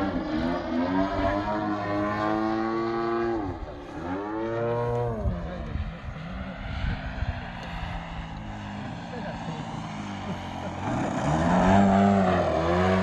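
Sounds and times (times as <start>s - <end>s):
model airplane motor and propeller: 0.0s - 13.0s.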